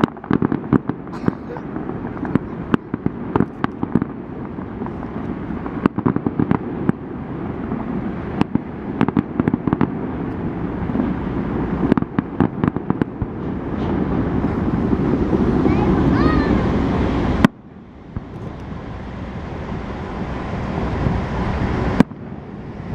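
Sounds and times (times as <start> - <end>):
fireworks bangs and crackles: 0.0 - 22.9.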